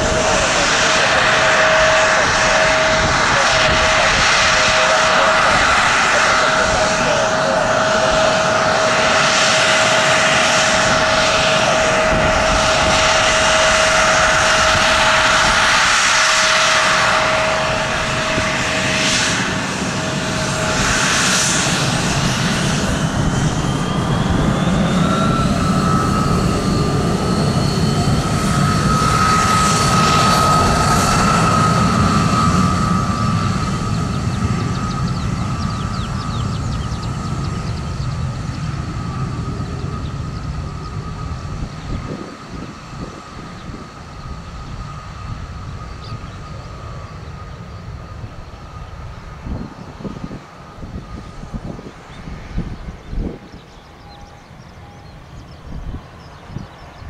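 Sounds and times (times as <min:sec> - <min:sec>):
airliner engines whining: 0:00.0 - 0:57.0.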